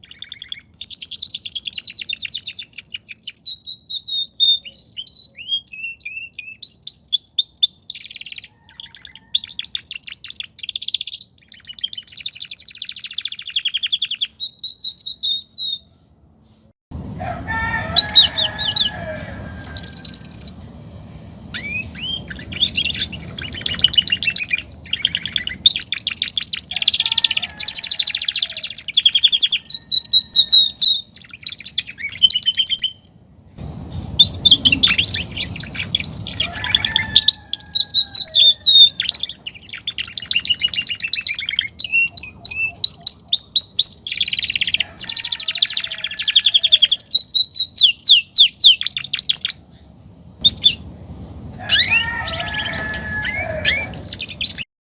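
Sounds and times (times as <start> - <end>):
finch singing trills and chirps: 0.0 - 15.8, 19.6 - 20.6, 21.5 - 33.2, 34.2 - 50.9, 51.6 - 54.6.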